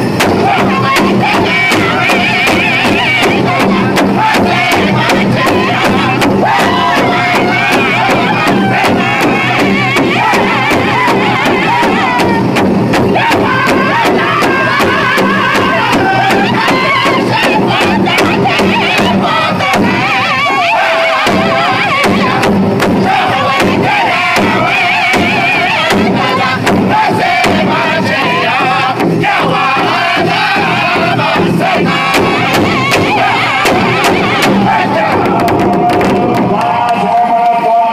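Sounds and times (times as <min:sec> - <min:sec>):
large drum beating: 0:00.0 - 0:37.0
men singing in high voices: 0:00.0 - 0:37.9.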